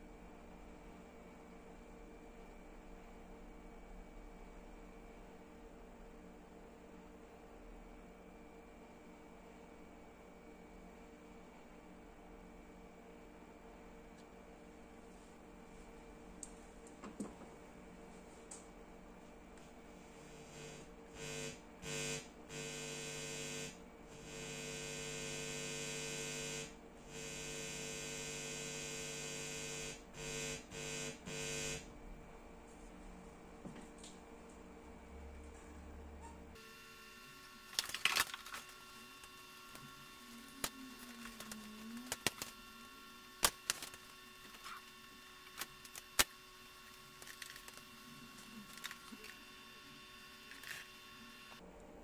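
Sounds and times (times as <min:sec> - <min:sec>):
mains hum and buzz: 0:00.0 - 0:52.0.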